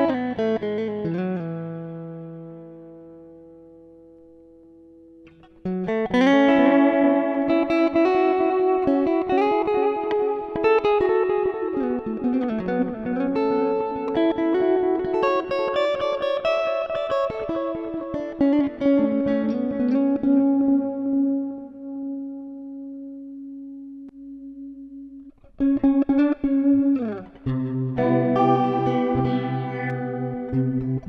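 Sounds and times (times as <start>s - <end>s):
electric guitar melodic notes: 0.0s - 31.0s.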